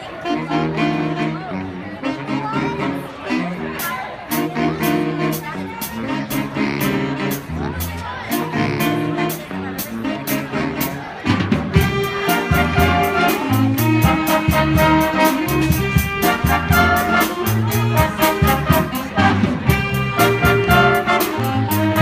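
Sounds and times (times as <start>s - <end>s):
jazz band playing swing: 0.0s - 22.0s.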